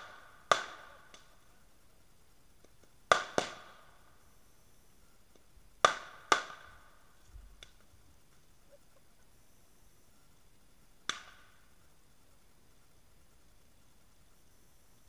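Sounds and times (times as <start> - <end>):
fireworks cracking: 0.0 - 4.4, 5.2 - 9.6, 10.8 - 14.3.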